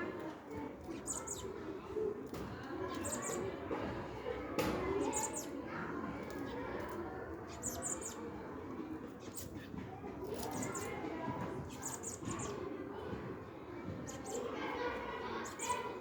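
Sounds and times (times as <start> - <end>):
low background murmur: 0.0 - 16.0
small birds chirping: 0.6 - 3.6, 4.8 - 12.7, 14.0 - 16.0.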